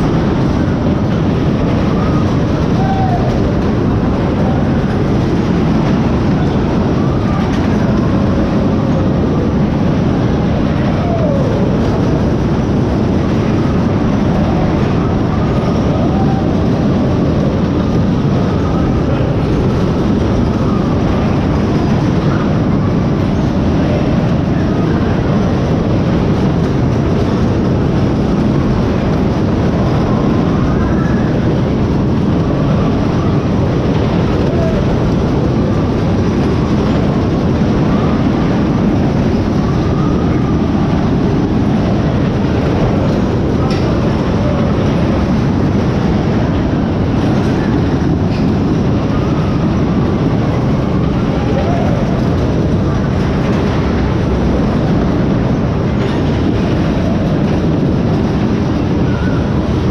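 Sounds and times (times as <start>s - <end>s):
rail vehicle rumbling: 0.0s - 59.9s.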